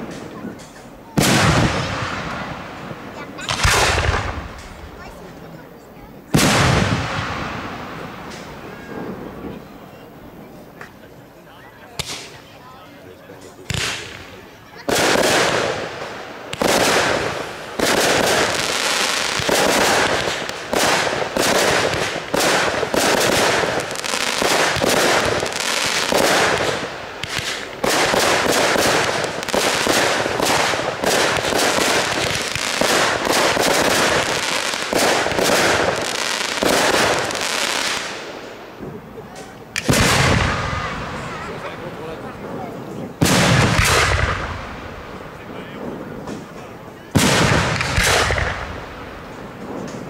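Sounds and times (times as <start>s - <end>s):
fireworks bangs and crackling: 0.0s - 50.0s.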